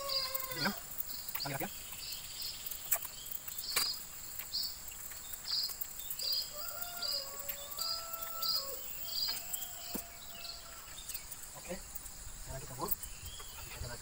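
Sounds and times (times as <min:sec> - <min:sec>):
high insect drone: 0:00.0 - 0:14.0
insects chirping: 0:00.0 - 0:14.0.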